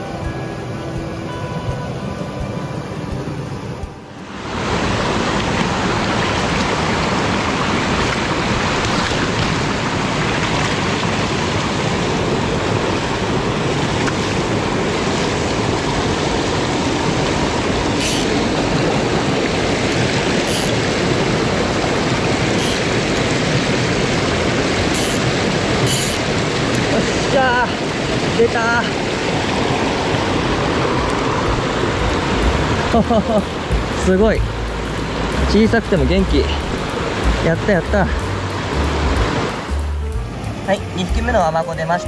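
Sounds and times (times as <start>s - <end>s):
stream rushing over rocks: 2.8s - 42.0s.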